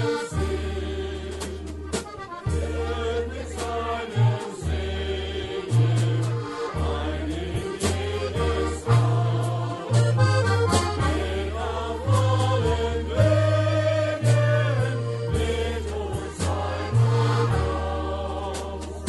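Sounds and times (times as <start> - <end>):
accordion: 0.0 - 19.0
bass line: 0.0 - 19.0
polka band playing: 0.0 - 19.0
drum hits: 0.1 - 19.0.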